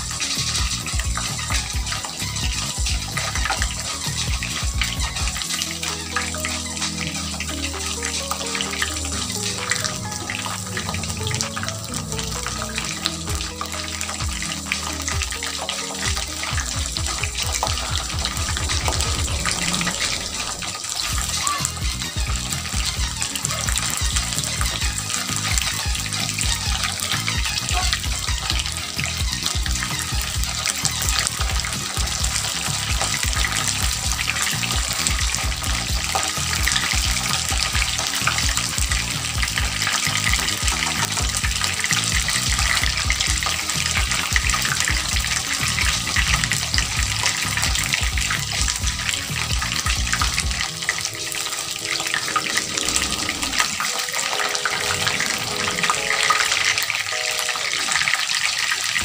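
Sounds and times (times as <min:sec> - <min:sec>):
background music: 0:00.0 - 0:59.0
chicken sizzling in hot oil: 0:00.0 - 0:59.0.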